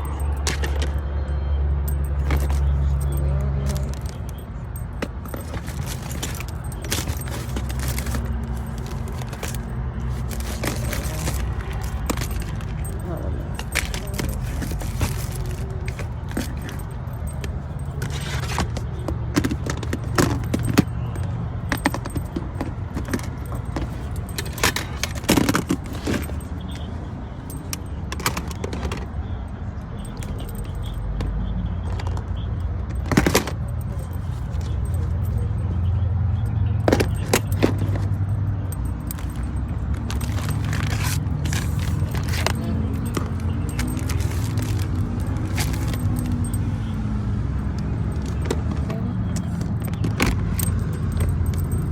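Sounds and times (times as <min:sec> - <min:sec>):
small objects clinking and rustling: 0:00.0 - 0:51.9.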